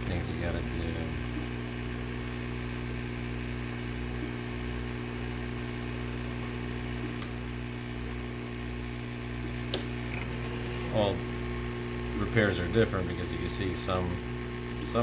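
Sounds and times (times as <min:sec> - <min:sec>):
heat gun motor and fan hum: 0:00.0 - 0:15.0.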